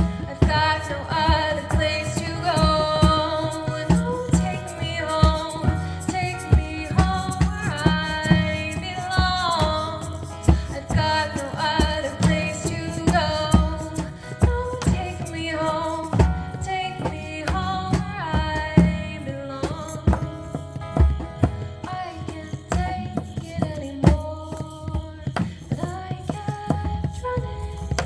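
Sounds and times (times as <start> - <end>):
hand drum rhythm: 0.0 - 28.0
woman singing: 0.0 - 28.0.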